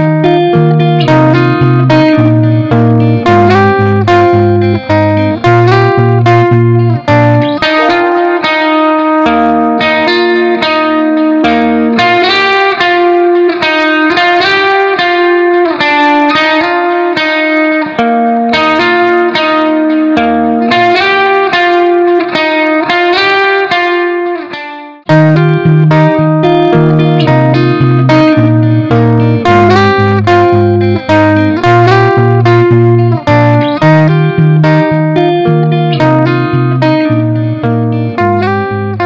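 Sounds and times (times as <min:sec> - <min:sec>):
plucked guitar melody: 0:00.0 - 0:39.0.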